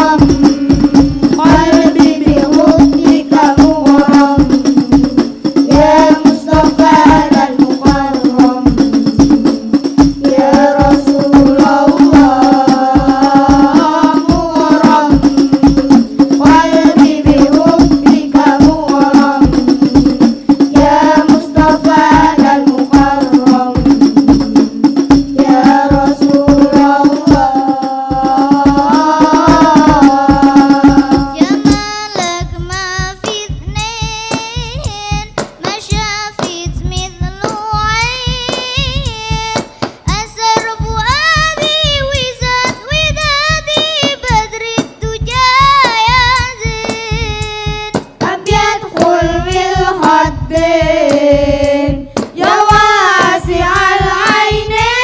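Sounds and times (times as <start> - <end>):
children singing in unison: 0.0 - 34.7, 37.4 - 55.0
bass drum: 0.0 - 55.0
frame drums beat: 0.0 - 55.0.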